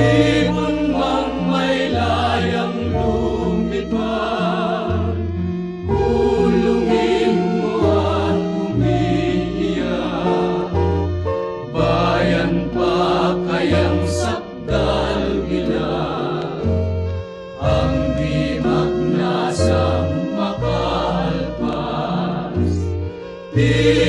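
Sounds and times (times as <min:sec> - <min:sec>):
singing voices: 0:00.0 - 0:05.2, 0:06.0 - 0:10.8, 0:11.7 - 0:17.0, 0:17.6 - 0:24.0.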